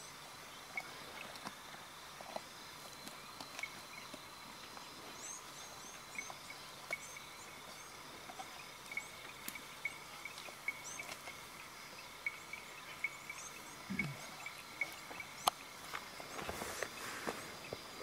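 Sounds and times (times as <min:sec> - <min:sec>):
bird calls: 0:03.0 - 0:18.0.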